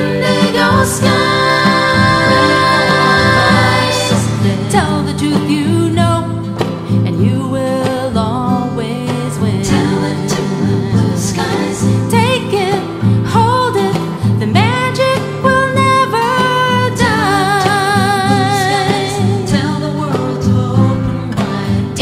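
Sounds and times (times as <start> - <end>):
guitar plucked and strummed: 0.0 - 22.0
women singing: 0.0 - 22.0.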